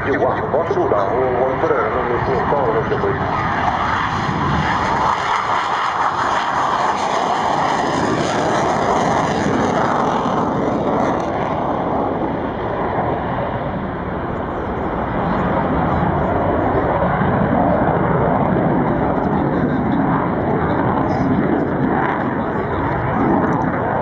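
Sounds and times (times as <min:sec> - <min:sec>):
loud jet roar: 0:00.0 - 0:24.0.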